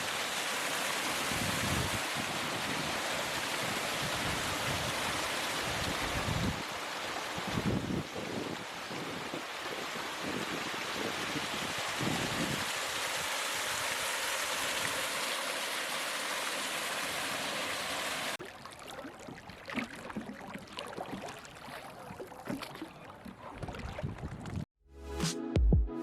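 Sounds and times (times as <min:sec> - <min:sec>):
rushing water: 0:00.0 - 0:24.7
small water splashes and trickles: 0:00.0 - 0:24.7.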